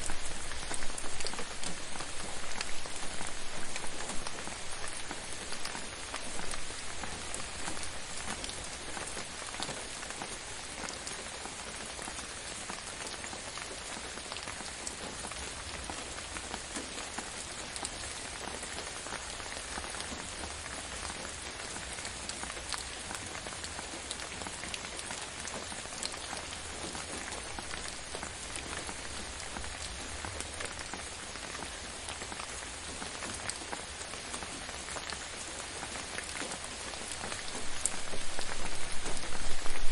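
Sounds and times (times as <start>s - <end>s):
gentle rain patter: 0.0s - 39.9s.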